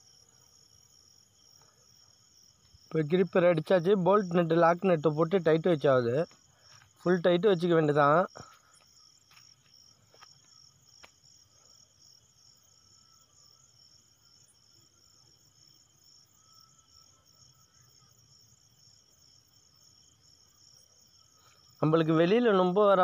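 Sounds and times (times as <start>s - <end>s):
faint cricket chirping: 0.0s - 23.0s.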